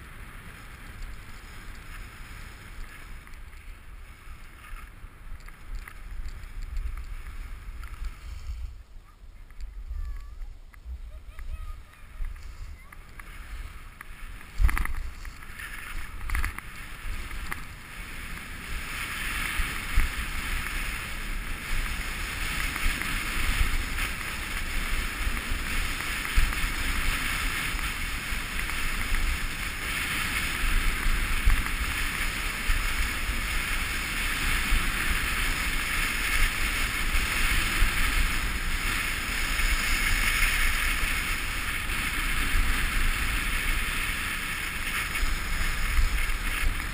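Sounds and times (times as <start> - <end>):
skis knocking on choppy snow: 0.0 - 8.7, 9.5 - 46.9
skis hissing over snow: 0.0 - 46.9
wind buffeting microphone: 0.0 - 46.9.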